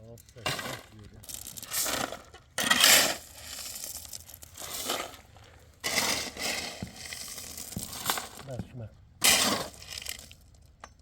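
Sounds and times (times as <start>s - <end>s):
gritty scraping of building material: 0.0s - 11.0s.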